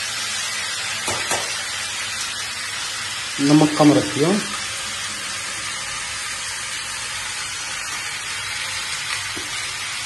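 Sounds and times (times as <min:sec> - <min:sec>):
potatoes sizzling in oil: 0:00.0 - 0:10.0.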